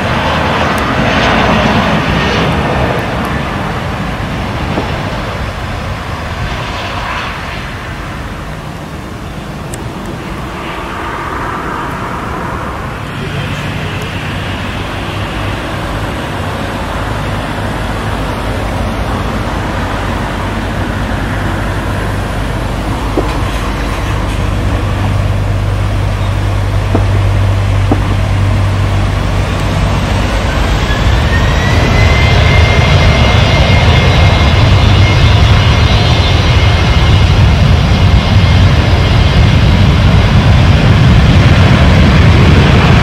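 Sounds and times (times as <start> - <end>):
jet engines rumbling: 0.0 - 43.0
rising jet engine whine: 0.0 - 43.0.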